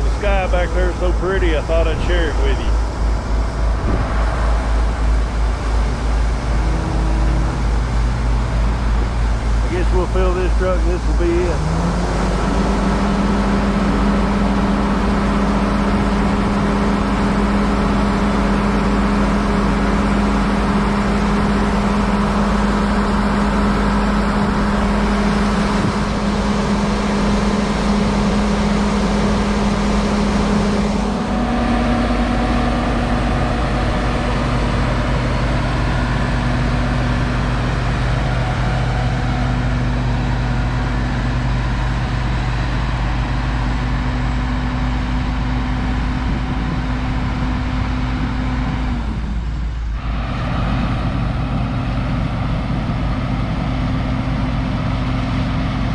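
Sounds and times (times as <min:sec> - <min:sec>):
truck engine drone: 0:00.0 - 0:55.9.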